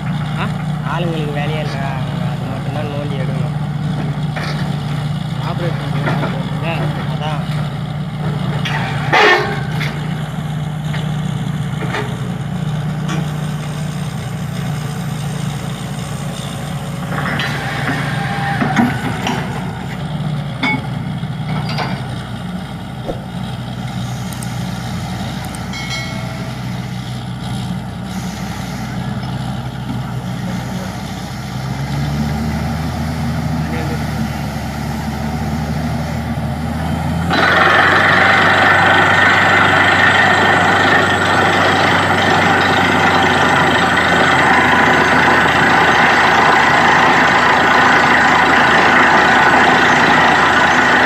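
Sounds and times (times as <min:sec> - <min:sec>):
drilling rig engine drone: 0:00.0 - 0:51.0.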